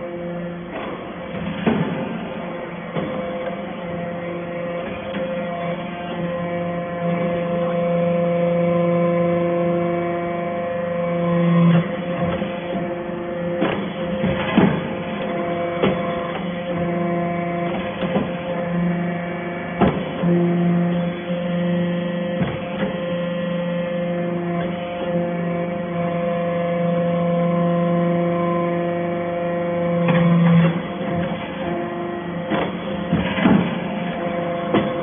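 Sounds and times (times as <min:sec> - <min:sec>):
baler motor and pump hum: 0:00.0 - 0:35.0.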